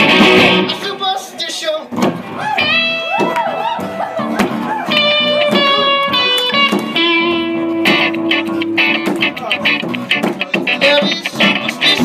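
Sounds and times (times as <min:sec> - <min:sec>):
live guitar-led instrumental music: 0:00.0 - 0:01.0, 0:01.9 - 0:12.0.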